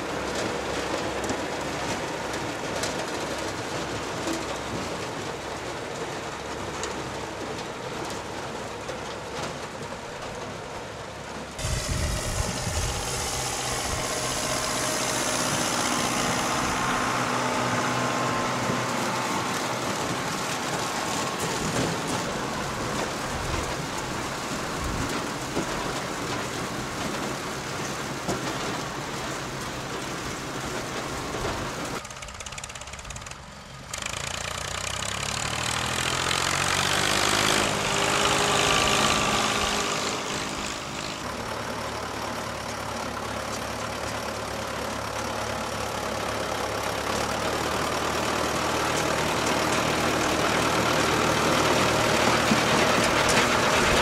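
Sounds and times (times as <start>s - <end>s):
harvester machine working: 0.0s - 54.0s
tractor engines running: 0.0s - 54.0s.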